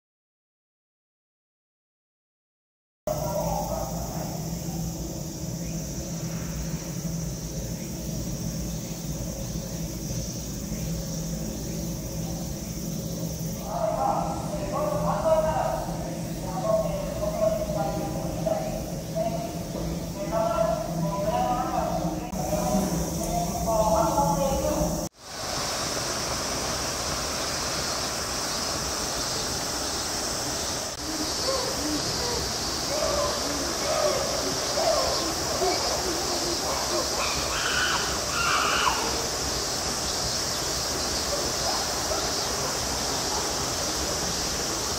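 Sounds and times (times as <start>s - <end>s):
high-pitched insect drone: 3.1s - 44.9s
steady high hissing noise: 3.1s - 44.9s.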